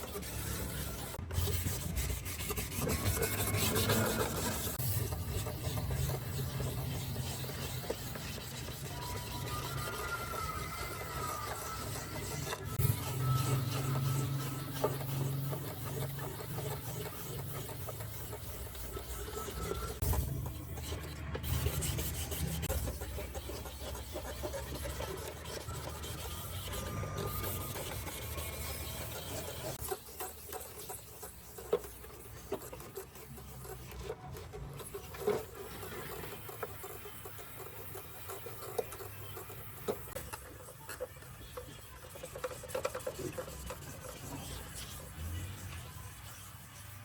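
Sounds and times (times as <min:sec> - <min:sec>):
rubbing and scraping on hard surface: 0:00.0 - 0:47.0.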